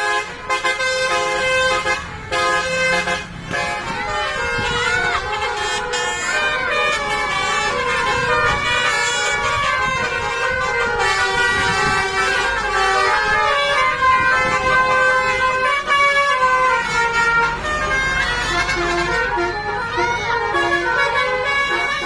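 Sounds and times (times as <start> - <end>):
bus multi-tone horn melody: 0.0 - 22.0.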